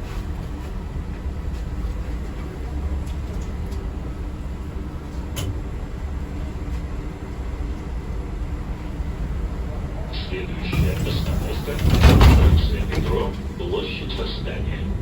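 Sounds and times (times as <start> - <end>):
public transport vehicle rumbling: 0.0 - 15.0.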